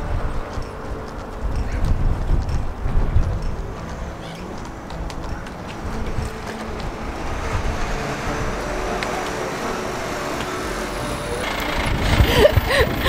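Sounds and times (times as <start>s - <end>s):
bridge deck rumbling: 0.0s - 13.0s.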